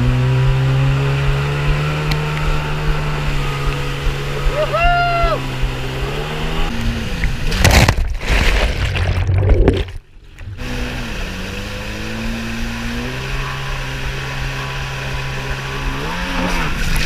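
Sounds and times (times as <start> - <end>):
jet ski engine running: 0.0 - 7.7, 10.2 - 17.0
water splashing and churning: 1.8 - 17.0.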